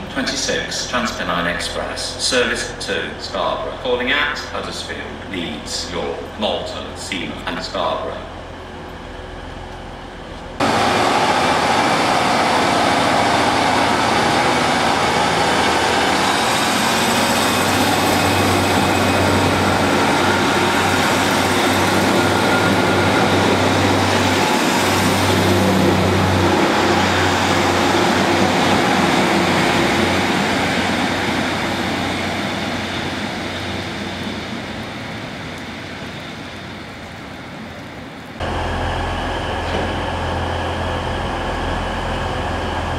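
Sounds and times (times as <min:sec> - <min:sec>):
train rumbling past: 0:00.0 - 0:37.8, 0:38.4 - 0:42.9.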